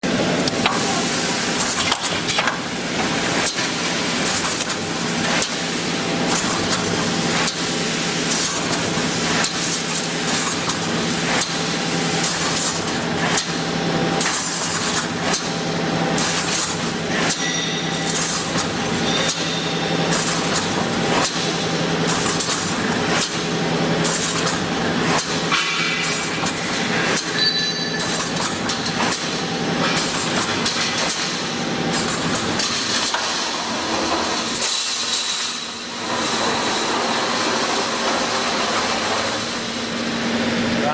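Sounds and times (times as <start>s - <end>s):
welding machine clattering: 0.3s - 40.0s.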